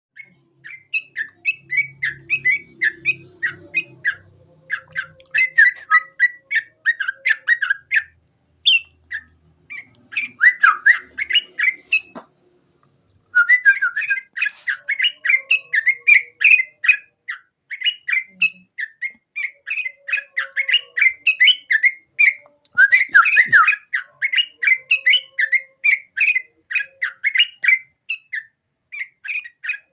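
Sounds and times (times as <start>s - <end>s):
bulbul chattering song: 0.2s - 12.4s, 13.1s - 29.9s.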